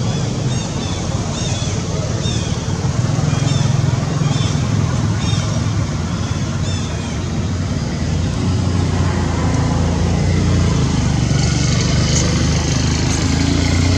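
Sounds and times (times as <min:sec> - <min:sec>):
vehicle engine humming: 0:00.0 - 0:13.9.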